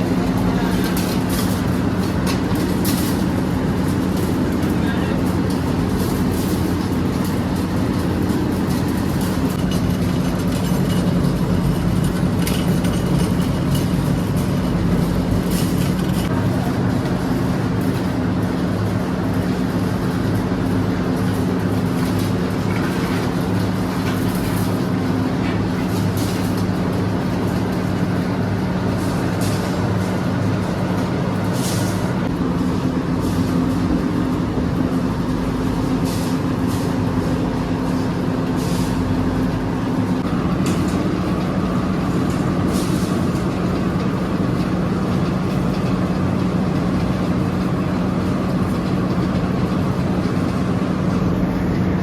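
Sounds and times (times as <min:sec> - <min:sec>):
industrial machinery rumble: 0:00.0 - 0:52.0.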